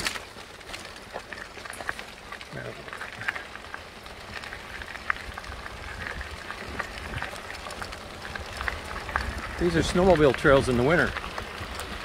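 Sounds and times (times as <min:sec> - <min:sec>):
tyres crunching over sandy trail: 0:00.0 - 0:12.0.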